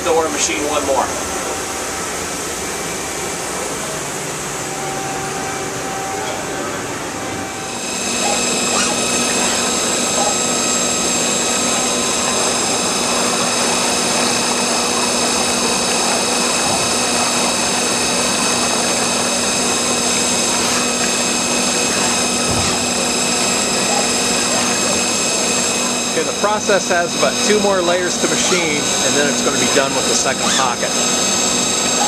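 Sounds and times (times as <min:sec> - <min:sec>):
high-pitched whines: 0:00.0 - 0:32.0
loud steady rushing noise: 0:00.0 - 0:32.0.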